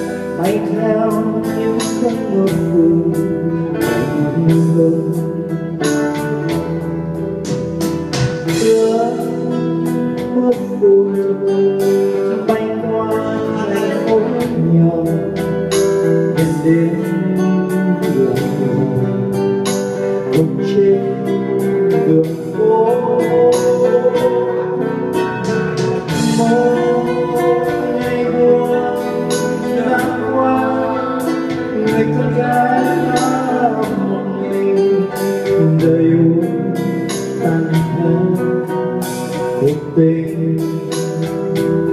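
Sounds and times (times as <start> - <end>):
guitar playing slow ballad: 0.0 - 41.9
person singing: 0.0 - 41.9.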